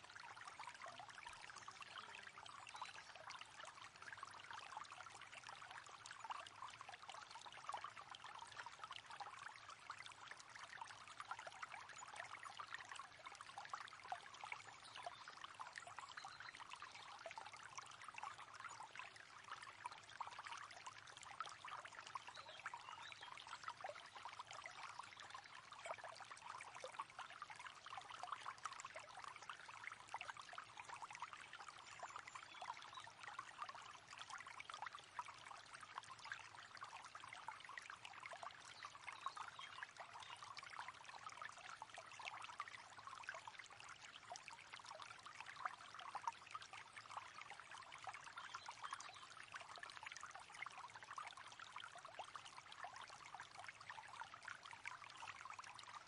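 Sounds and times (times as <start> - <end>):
river water babbling: 0.2 - 56.0.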